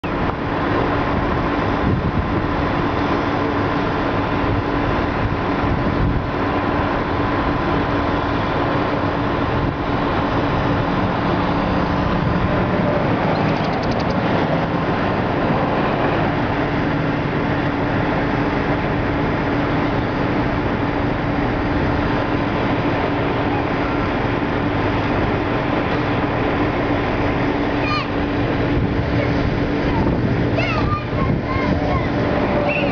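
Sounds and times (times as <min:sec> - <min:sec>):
vehicle engine hum: 0:00.0 - 0:32.9.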